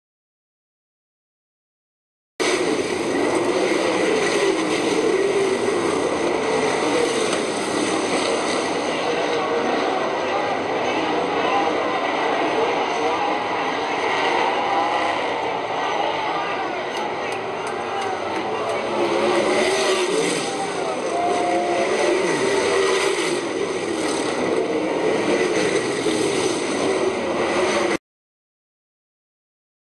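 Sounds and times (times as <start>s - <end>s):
racing engines droning: 2.4s - 28.0s.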